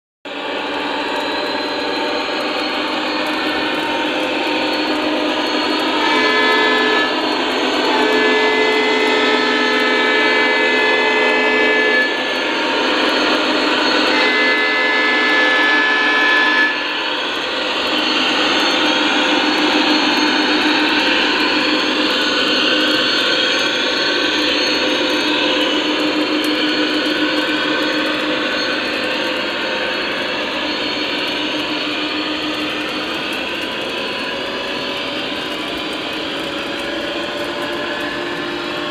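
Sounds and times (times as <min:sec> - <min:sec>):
model train engine rumble: 0:00.3 - 0:38.9
model train rolling on track: 0:00.3 - 0:38.9.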